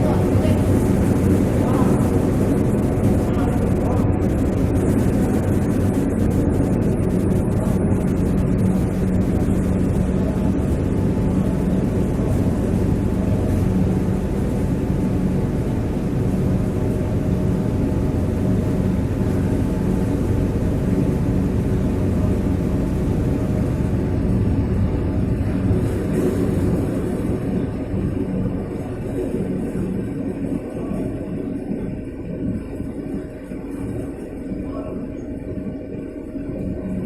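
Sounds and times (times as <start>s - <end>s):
forklift engine humming: 0.0s - 37.0s.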